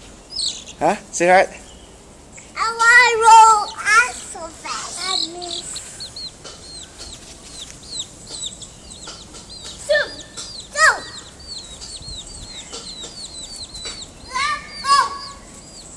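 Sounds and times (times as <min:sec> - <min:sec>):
baby chicks peeping: 0:00.0 - 0:15.9.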